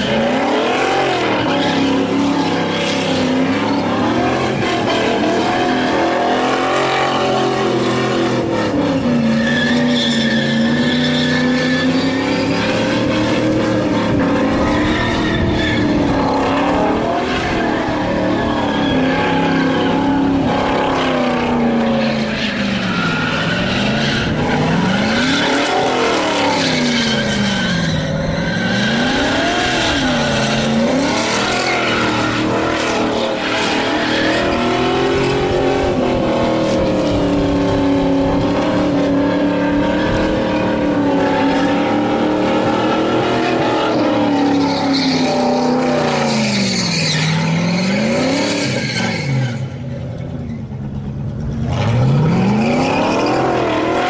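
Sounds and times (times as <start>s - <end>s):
tyres screeching: 0.0s - 38.4s, 39.0s - 54.0s
car engine at high revs: 0.0s - 54.0s.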